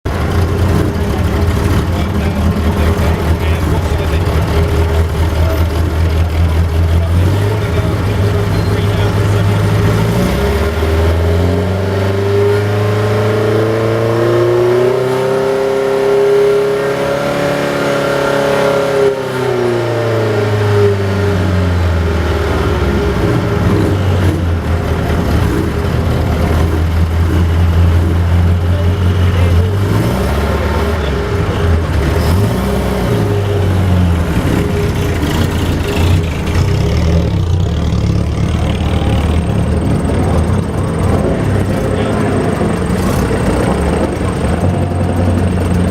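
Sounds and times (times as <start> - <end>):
sports car engine revving: 0.1 - 45.9.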